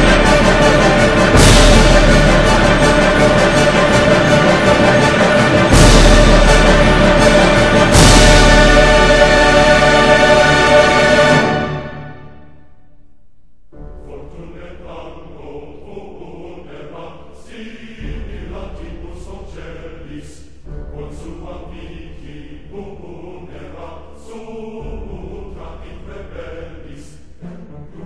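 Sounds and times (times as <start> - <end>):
choir-like chant over a beat: 0.0 - 12.3, 13.9 - 28.0.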